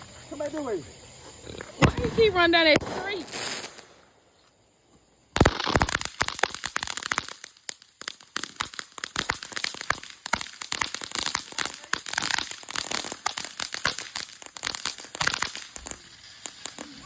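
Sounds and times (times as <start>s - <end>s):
firework crackling: 0.0s - 4.3s, 5.4s - 17.0s.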